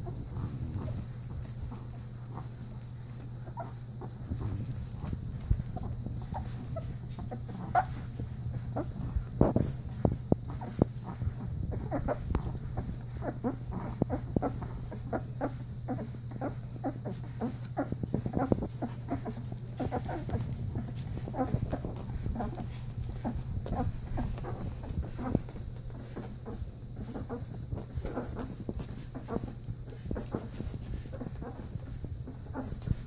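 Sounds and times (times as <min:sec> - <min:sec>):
puppies suckling smacking and squeaking: 0:00.0 - 0:33.0
steady low hum: 0:00.0 - 0:33.0.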